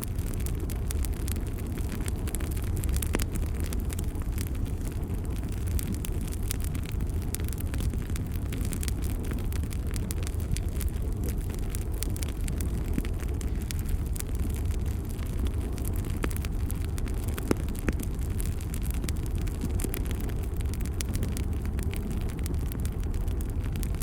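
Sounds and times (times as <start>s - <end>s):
burning wood crackling and popping: 0.0s - 24.0s
low rumble of flames: 0.0s - 24.0s.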